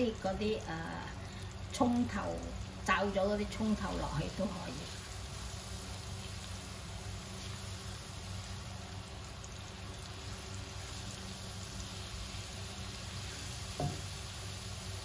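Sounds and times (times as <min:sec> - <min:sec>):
garlic sizzling in oil: 0:00.0 - 0:15.0
low steady hum: 0:00.0 - 0:15.0.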